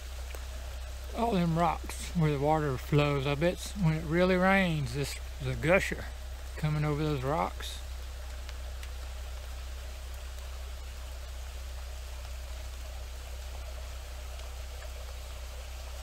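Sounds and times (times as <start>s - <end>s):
rain hissing: 0.0s - 16.0s
water running over rocks: 0.0s - 16.0s.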